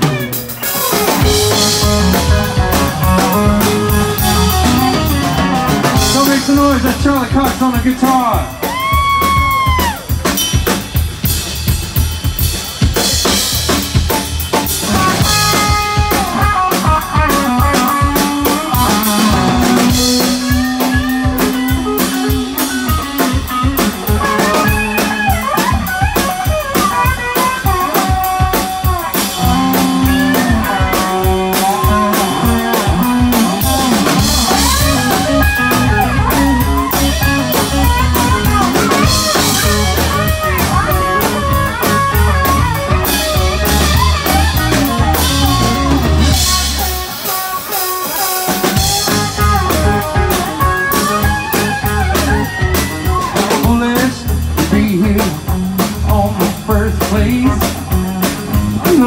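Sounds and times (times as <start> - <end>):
blues band playing: 0.0 - 59.0
electric guitar with bent notes: 0.0 - 59.0.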